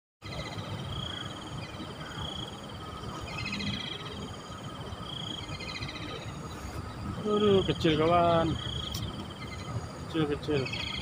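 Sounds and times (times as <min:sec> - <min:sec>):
insects buzzy trills: 0:00.2 - 0:11.0
low outdoor rumble: 0:00.2 - 0:11.0.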